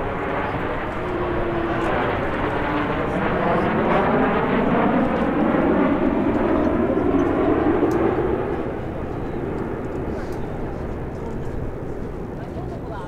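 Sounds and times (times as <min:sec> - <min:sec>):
jets flying past: 0:00.0 - 0:12.8.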